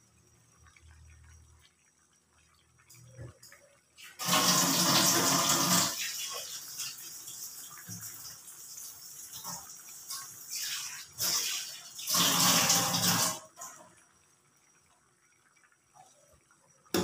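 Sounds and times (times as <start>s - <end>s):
water boiling in a saucepan: 0.0s - 17.0s.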